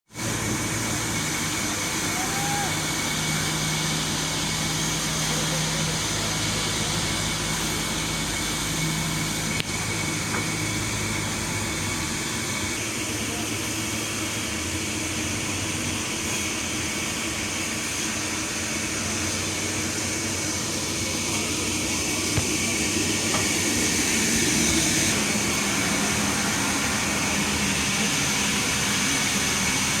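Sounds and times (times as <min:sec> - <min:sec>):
sawmill machinery running: 0:00.1 - 0:30.0.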